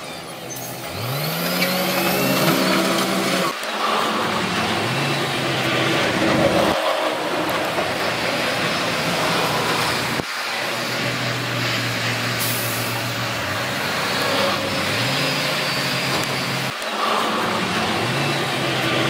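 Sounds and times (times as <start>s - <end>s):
diesel earthmoving machinery rumbling: 0.0s - 19.0s.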